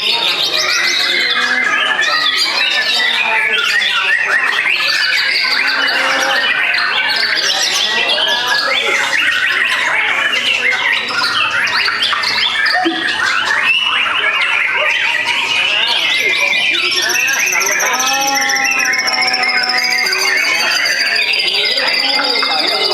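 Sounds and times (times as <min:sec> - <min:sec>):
songbirds singing chorus: 0:00.0 - 0:22.9.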